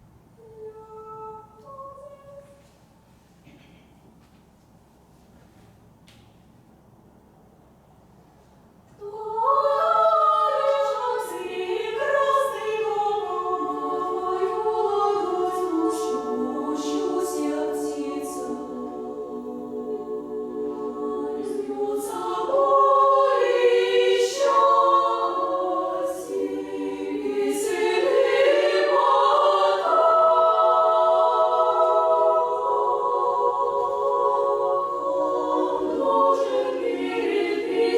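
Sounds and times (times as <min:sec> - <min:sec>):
women's choir singing: 0:00.4 - 0:02.7, 0:09.0 - 0:37.9.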